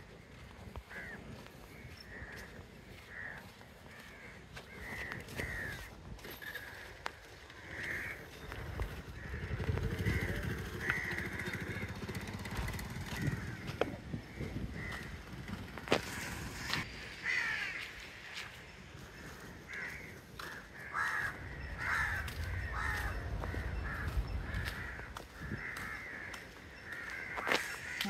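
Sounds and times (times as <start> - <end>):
crows cawing: 0.2 - 28.0.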